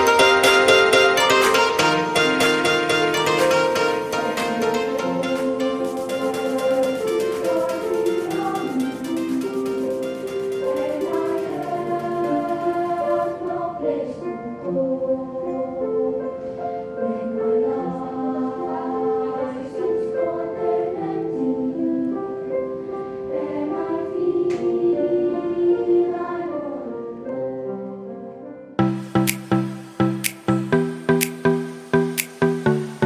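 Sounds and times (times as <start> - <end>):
children's choir singing: 0.0 - 27.8.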